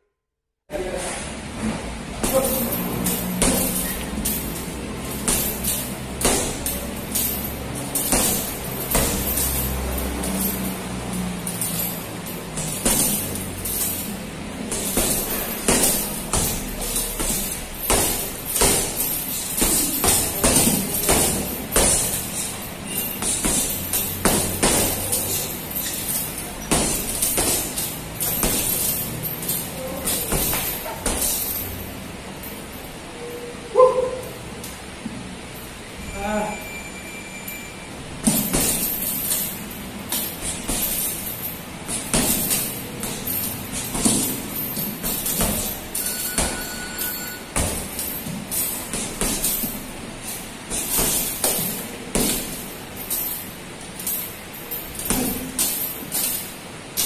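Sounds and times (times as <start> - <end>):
gloves punching a heavy bag: 2.2 - 31.7, 38.2 - 57.0.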